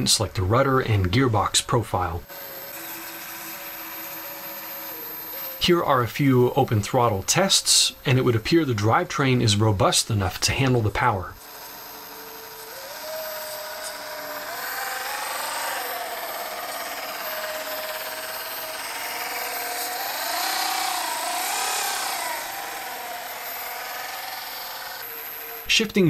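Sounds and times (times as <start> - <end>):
model boat motor whining: 0.0 - 26.0.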